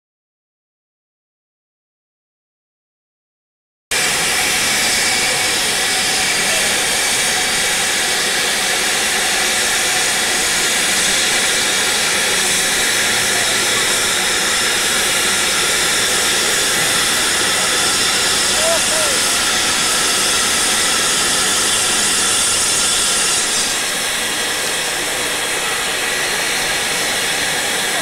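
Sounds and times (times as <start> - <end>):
steam hissing from locomotive: 3.9 - 28.0.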